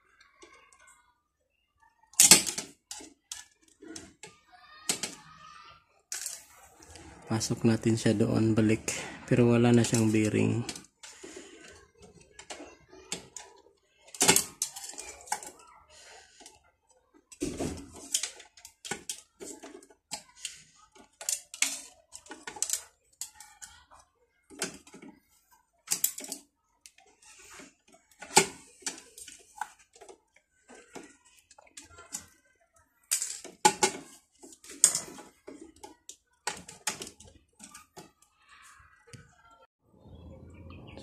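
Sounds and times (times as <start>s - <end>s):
plastic and metal parts clicking: 2.1s - 5.3s, 6.1s - 7.0s, 8.7s - 38.3s.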